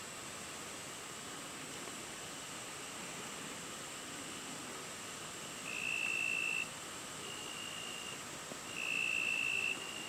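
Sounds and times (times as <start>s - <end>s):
faint high hiss: 0.0s - 10.0s.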